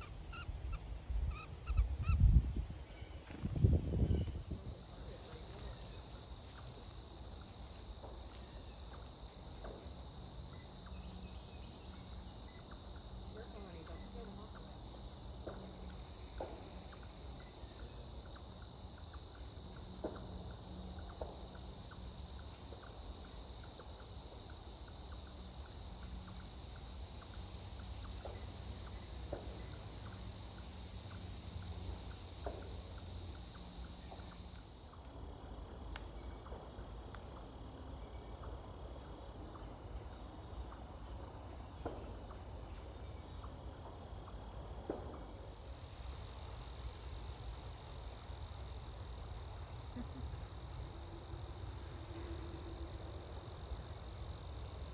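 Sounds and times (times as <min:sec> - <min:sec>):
high insect trill: 0:00.0 - 0:54.9.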